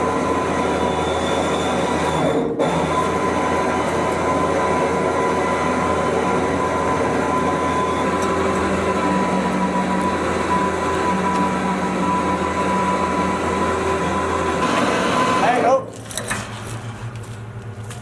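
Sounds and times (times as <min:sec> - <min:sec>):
winch whining and grinding: 0:00.0 - 0:18.0.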